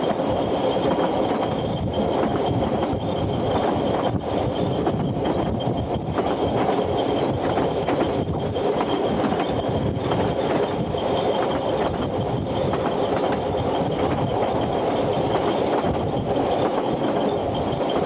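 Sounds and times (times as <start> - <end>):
faint rail clicks: 0.0 - 18.0
train wheels rumbling on rails: 0.0 - 18.0.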